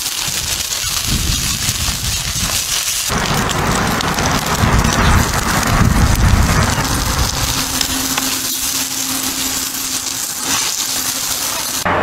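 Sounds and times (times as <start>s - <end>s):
onions sizzling on griddle: 0.0s - 11.9s
low rumble: 1.0s - 12.0s.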